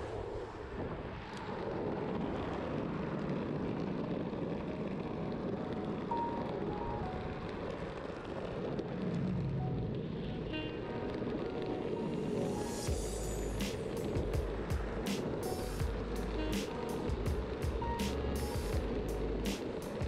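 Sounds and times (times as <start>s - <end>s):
road noise: 0.0s - 20.0s
rushing wind: 0.0s - 20.0s.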